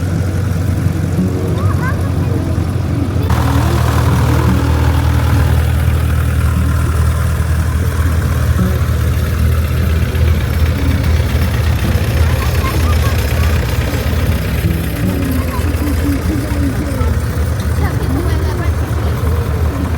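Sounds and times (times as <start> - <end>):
tractor engine rumbling: 0.0 - 19.9.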